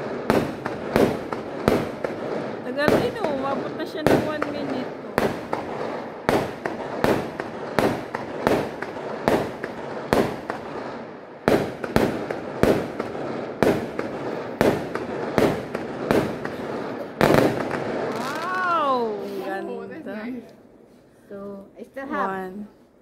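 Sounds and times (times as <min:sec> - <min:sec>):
fireworks banging: 0:00.0 - 0:20.5.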